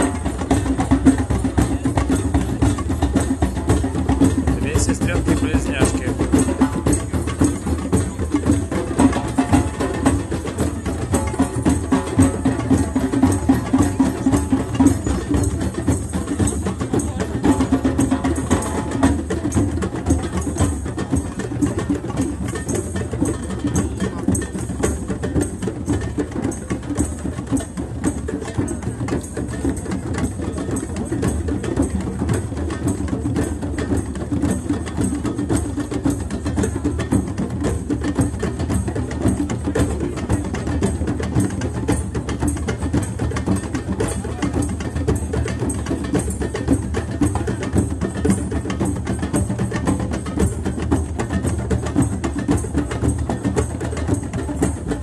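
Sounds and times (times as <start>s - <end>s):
fast hand drumming: 0.0s - 55.0s.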